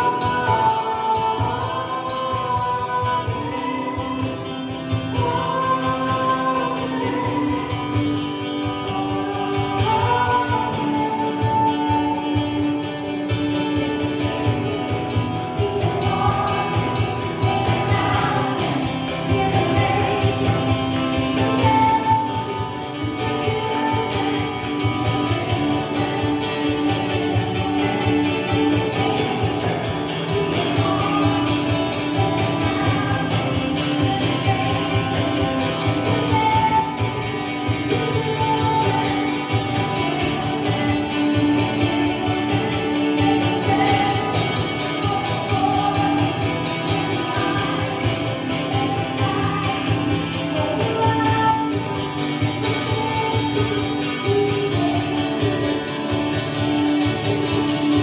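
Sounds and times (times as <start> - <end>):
gospel singing voices: 0.0 - 58.0
guitar: 0.0 - 58.0.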